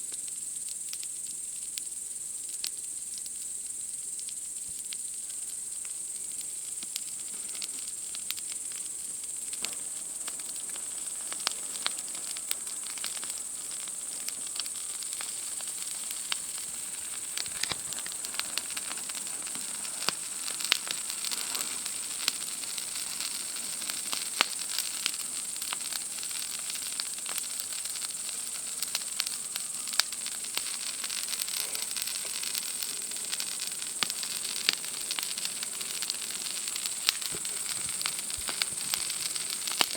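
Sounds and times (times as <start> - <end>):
night insects chirping: 0.0 - 39.9
wood fire crackling: 0.0 - 39.9.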